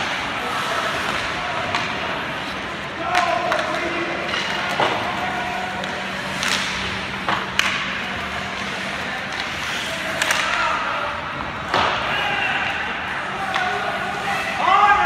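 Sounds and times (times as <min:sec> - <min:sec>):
hockey sticks clacking on puck: 0:00.0 - 0:14.8
ice arena noise: 0:00.0 - 0:15.0.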